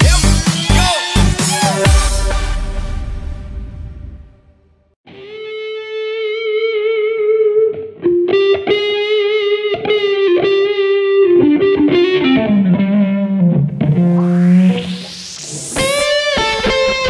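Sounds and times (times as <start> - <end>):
distorted electric guitar: 0.0 - 2.9, 5.1 - 17.0.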